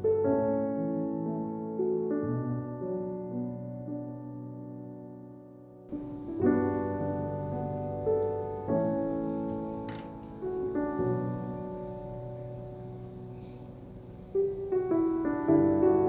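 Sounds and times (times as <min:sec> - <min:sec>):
soft solo piano music: 0:00.0 - 0:16.0.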